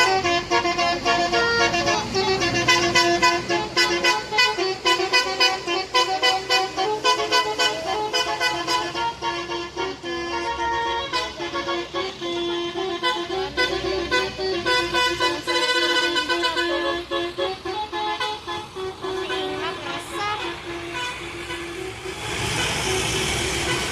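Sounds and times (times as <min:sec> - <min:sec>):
bus musical horn playing a tune: 0:00.0 - 0:23.9
passing traffic: 0:00.0 - 0:23.9.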